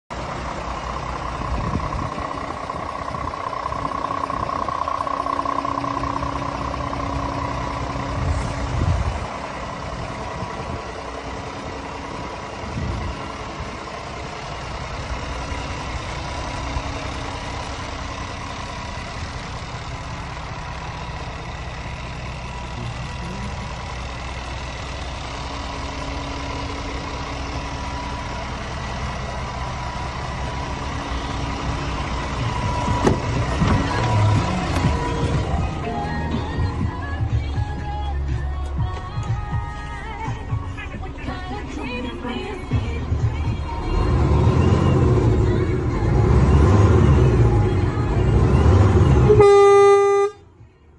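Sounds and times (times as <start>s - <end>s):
diesel truck engine idling: 0.1s - 50.9s
low bumps: 0.2s - 49.4s.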